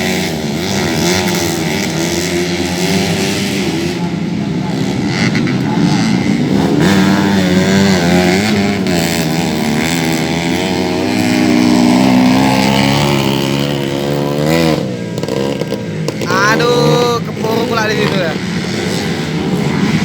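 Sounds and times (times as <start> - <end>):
motorcycles revving hard: 0.0 - 20.0.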